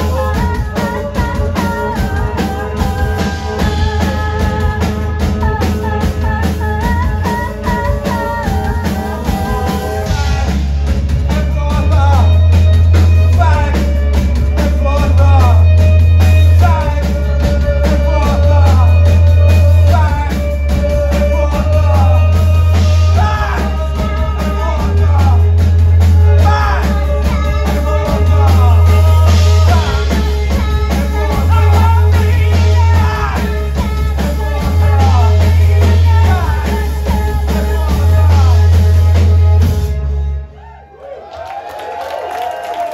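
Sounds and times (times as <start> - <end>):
person singing: 0.0 - 39.8
drum beat: 0.0 - 40.0
bass guitar line: 0.0 - 40.9.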